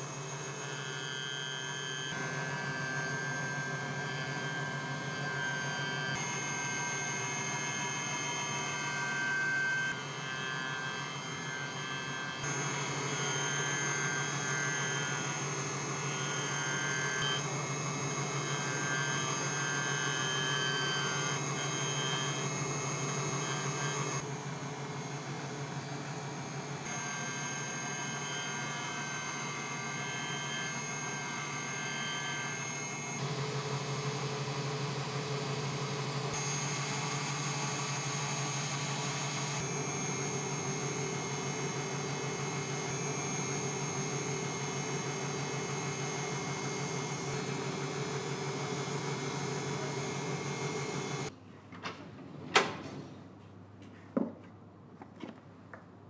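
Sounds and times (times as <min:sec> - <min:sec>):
thin whining tones: 0:00.0 - 0:33.3, 0:36.3 - 0:51.3
machine electric hum: 0:00.0 - 0:51.3.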